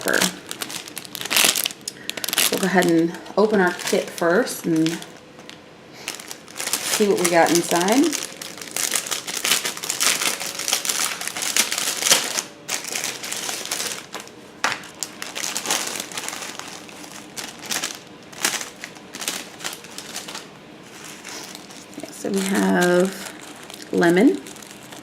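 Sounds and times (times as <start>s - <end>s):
packaging crinkling and rustling: 0.0s - 25.0s.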